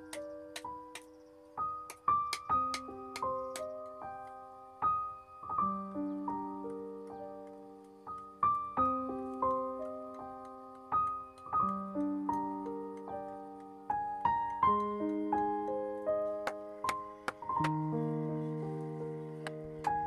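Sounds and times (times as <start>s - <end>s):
slow piano tune: 0.0s - 20.0s.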